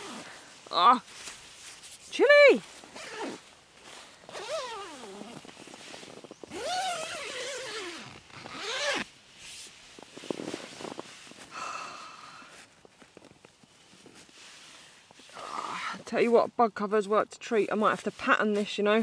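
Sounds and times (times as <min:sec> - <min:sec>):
nylon fabric rustling: 0:00.0 - 0:19.0.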